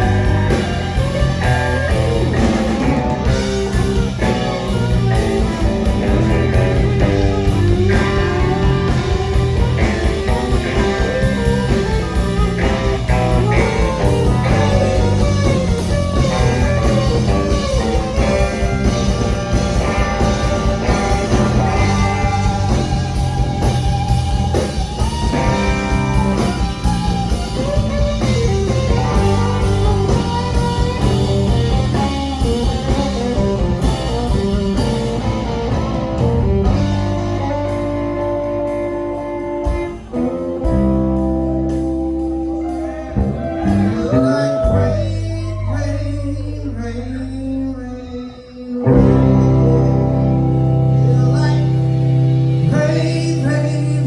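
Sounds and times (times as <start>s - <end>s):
drum kit: 0.0s - 45.2s, 48.9s - 54.0s
bass guitar: 0.0s - 54.0s
lead electric guitar: 0.0s - 54.0s.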